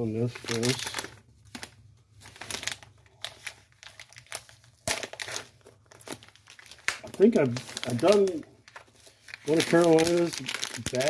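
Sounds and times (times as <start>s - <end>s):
plastic bag crinkling: 0.1s - 11.0s.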